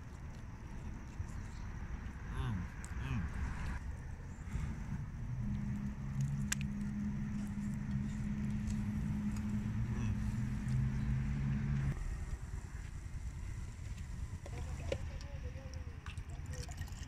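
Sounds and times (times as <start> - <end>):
vehicle engine idling: 0.0 - 16.7.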